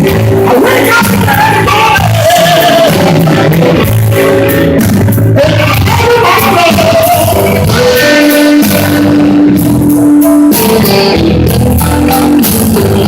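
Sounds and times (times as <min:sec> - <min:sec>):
blues-rock band playing live: 0:00.0 - 0:13.0.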